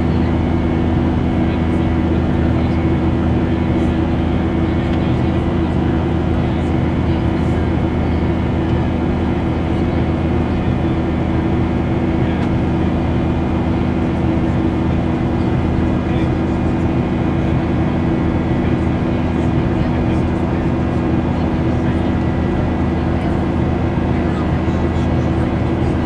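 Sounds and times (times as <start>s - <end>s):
jet engine cabin drone: 0.0s - 26.0s.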